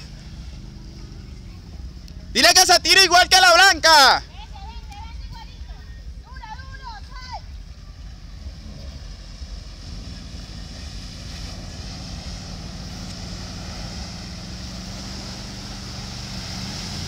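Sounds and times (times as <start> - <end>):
car engine running: 0.0 - 17.0
water splashing around wheels: 0.0 - 17.0.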